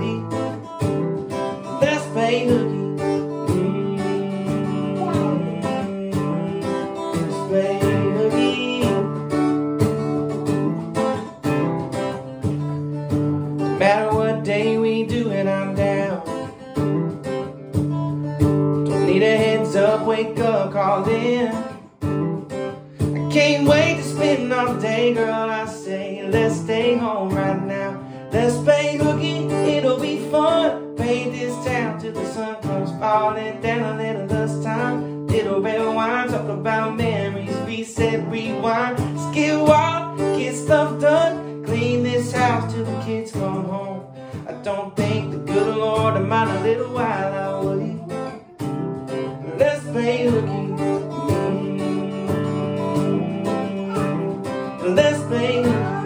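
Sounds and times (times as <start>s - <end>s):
man singing: 0.0s - 17.6s, 18.8s - 56.0s
acoustic guitar: 0.0s - 56.0s.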